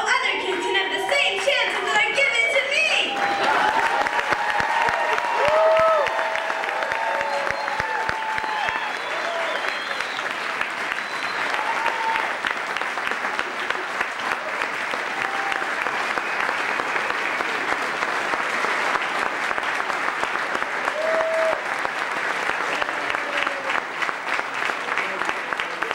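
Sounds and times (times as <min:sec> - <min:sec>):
audience applauding: 0:00.0 - 0:25.9.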